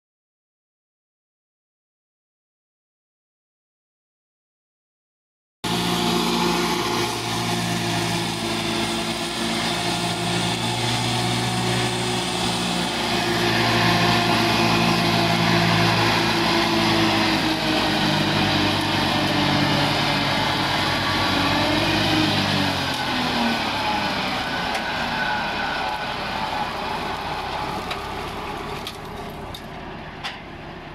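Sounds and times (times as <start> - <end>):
mower cutting tall grass: 5.6 - 30.7
tractor engine running under load: 5.6 - 30.9.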